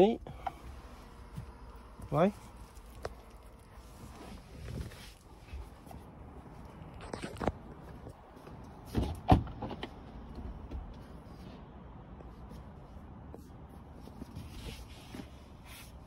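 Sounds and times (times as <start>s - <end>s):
faint knocks and handling noise: 0.4s - 16.0s.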